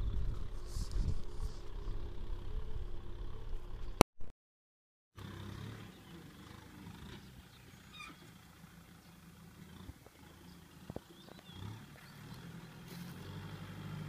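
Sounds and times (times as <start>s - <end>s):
tractor diesel engine drone: 0.0s - 4.0s, 5.2s - 14.0s.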